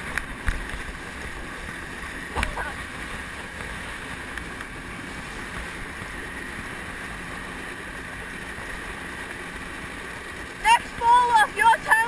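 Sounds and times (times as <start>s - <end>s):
motorboat wind and water rushing: 0.0s - 12.0s.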